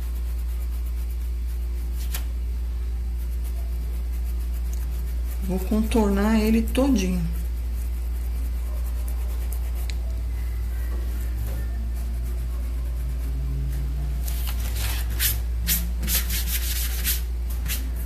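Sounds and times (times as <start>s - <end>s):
dry brush scratching on stencil: 0.0s - 18.0s
steady low hum: 0.0s - 18.0s.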